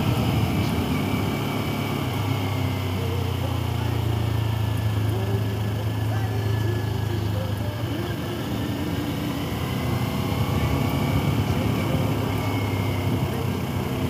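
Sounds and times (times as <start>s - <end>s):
motorcycle engine running: 0.0s - 14.0s
wind and road noise: 0.0s - 14.0s.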